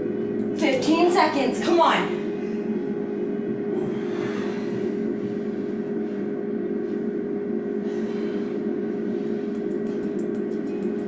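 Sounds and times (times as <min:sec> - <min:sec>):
low droning noise: 0:00.0 - 0:11.0.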